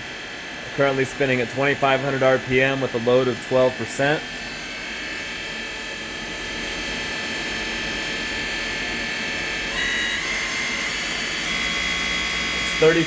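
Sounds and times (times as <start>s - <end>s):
lathe spindle humming with high whine: 0.0s - 13.0s.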